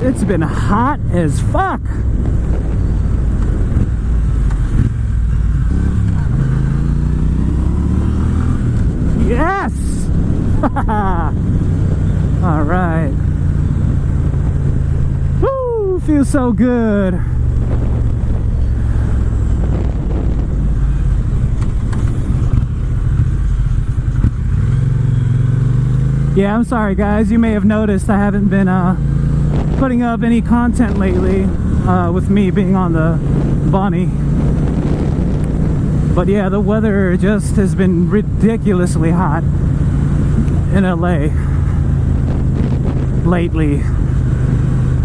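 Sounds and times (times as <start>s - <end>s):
motorcycle engine running: 0.0s - 45.0s
wind rumble on microphone: 0.0s - 45.0s.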